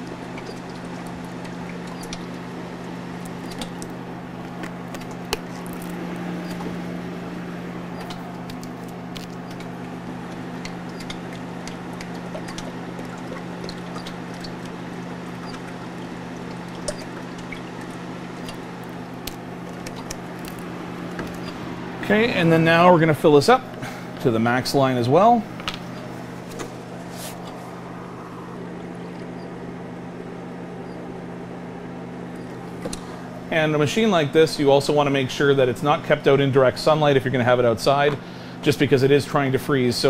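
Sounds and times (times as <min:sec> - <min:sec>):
slush machine humming: 0:00.0 - 0:40.0.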